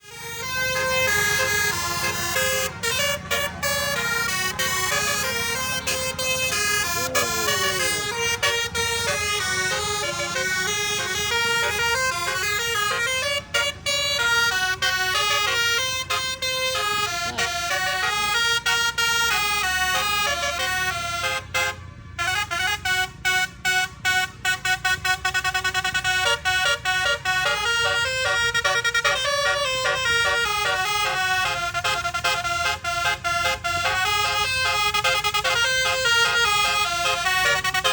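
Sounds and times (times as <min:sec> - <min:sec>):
multi-tone bus air horn melody: 0:00.0 - 0:37.9.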